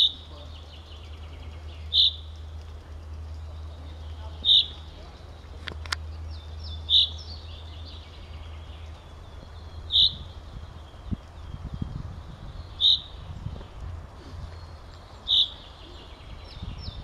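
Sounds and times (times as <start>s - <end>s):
faint bird song: 0.0s - 17.0s
low steady rumble: 0.0s - 17.0s.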